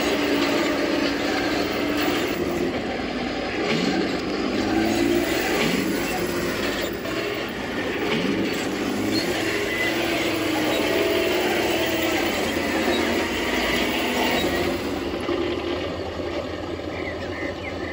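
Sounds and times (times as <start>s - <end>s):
toy tank motors whirring: 0.0s - 16.6s
tracks clattering: 0.0s - 17.9s.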